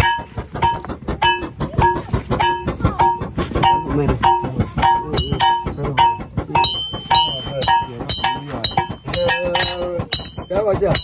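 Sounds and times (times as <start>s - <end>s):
hammer on metal: 0.0s - 11.0s
voices: 0.0s - 11.0s.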